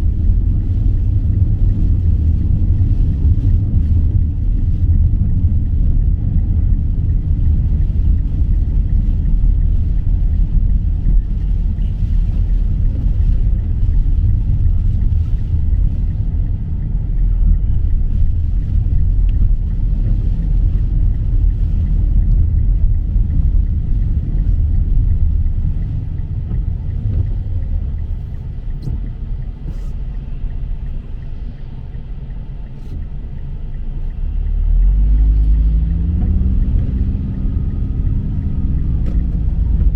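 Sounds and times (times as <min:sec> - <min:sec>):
vehicle driving low rumble: 0:00.0 - 0:39.9.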